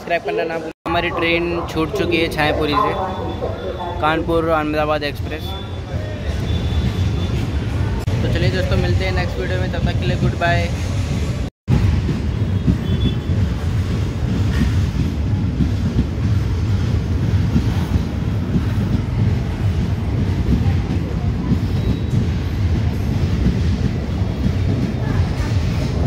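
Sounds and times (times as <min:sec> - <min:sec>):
train wheels rumbling on rail: 0:04.2 - 0:26.0.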